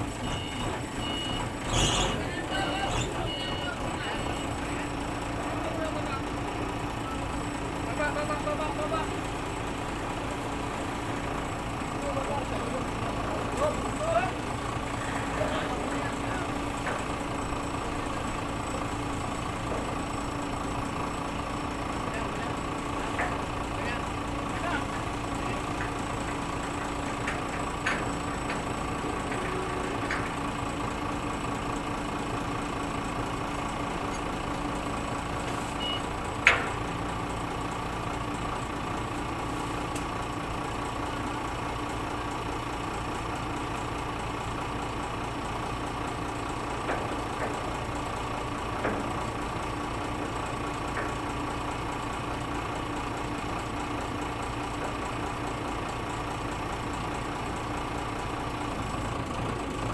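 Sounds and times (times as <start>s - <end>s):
forklift engine idling: 0.0s - 59.9s.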